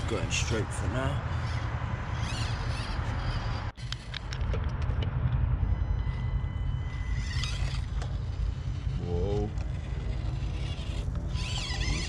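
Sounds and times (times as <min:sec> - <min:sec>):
small electric motor whining: 0:00.0 - 0:12.0
steady low rumble: 0:00.0 - 0:12.0.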